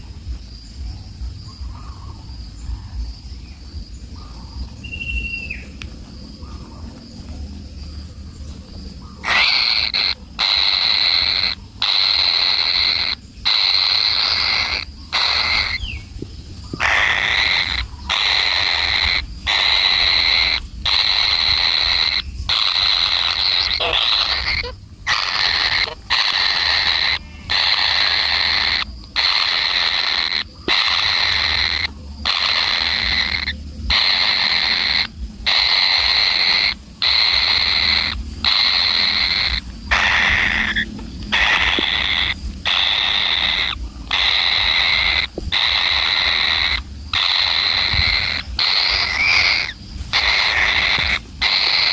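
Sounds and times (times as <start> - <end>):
shrill animal call: 9.1 - 16.0, 16.8 - 51.9.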